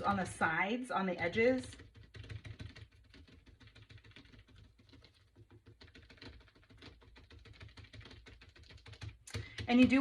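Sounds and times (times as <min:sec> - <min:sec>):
paintbrush ticking and scratching: 0:00.0 - 0:00.5, 0:01.2 - 0:10.0.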